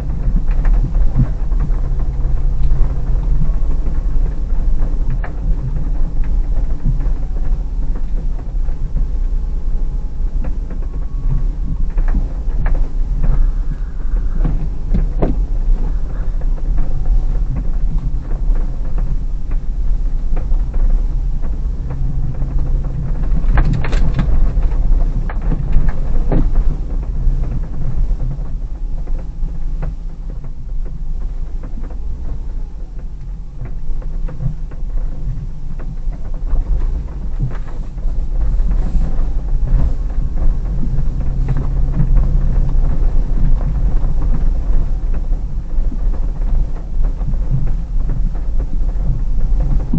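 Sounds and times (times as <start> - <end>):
car engine rumbling: 0.0 - 49.9
knocks and rattles: 0.0 - 49.9.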